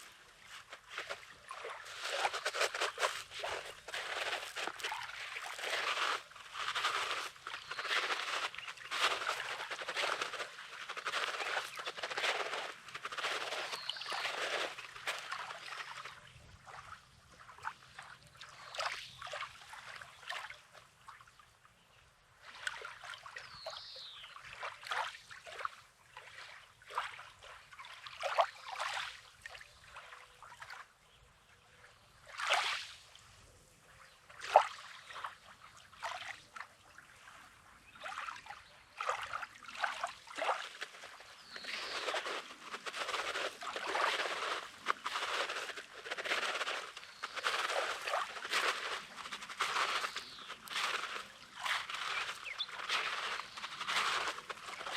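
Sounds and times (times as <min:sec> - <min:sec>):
small waves lapping on shore: 0:00.0 - 0:30.9, 0:34.0 - 0:54.9.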